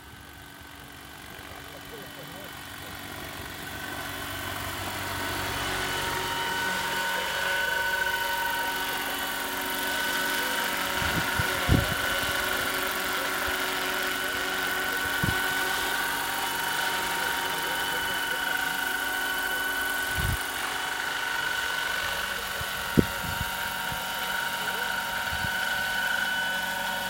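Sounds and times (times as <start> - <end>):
model helicopter whine: 0.0 - 27.0.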